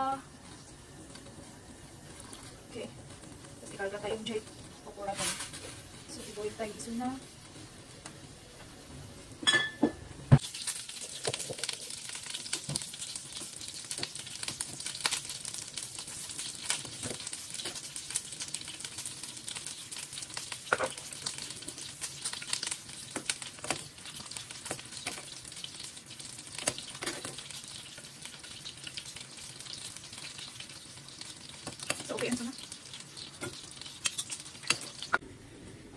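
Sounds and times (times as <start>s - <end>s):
water boiling in saucepan: 0.0s - 35.9s.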